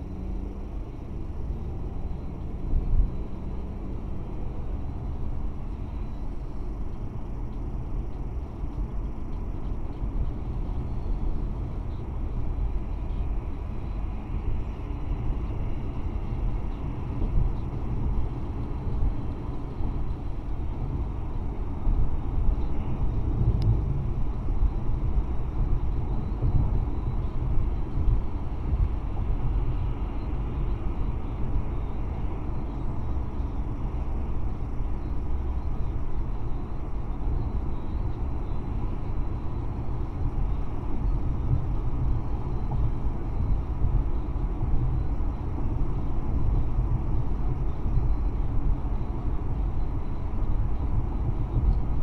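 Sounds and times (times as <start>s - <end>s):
car road noise rumble: 0.0s - 52.0s.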